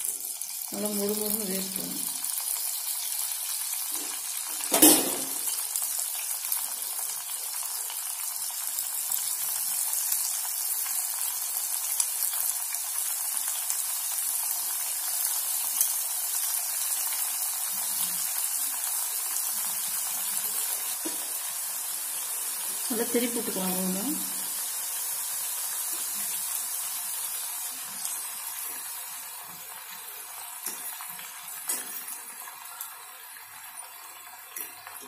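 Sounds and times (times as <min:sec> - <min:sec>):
deep-frying sizzling hiss: 0:00.0 - 0:35.0.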